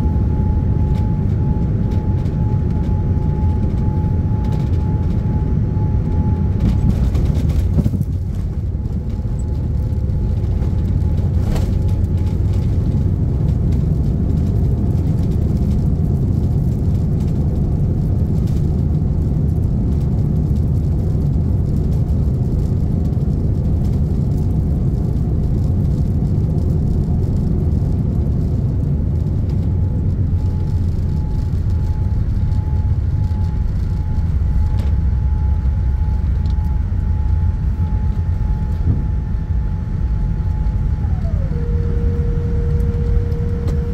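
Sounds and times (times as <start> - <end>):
low rumble of wheels and airflow: 0.0 - 43.9.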